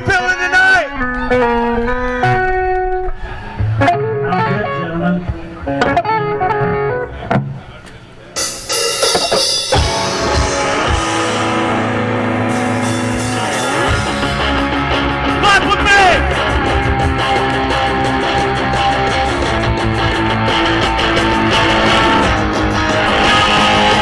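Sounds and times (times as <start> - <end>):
live rock band playing: 0.9 - 7.6, 8.4 - 24.0.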